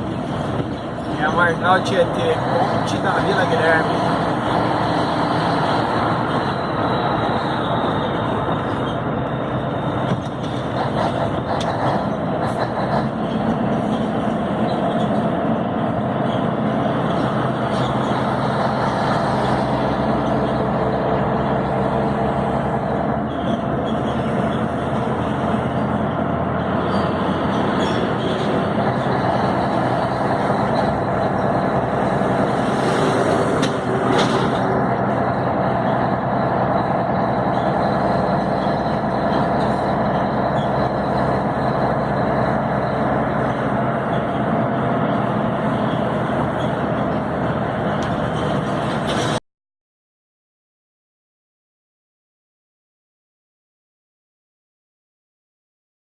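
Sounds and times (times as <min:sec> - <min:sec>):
road noise: 0:00.0 - 0:49.4
truck diesel engine running: 0:00.0 - 0:49.4.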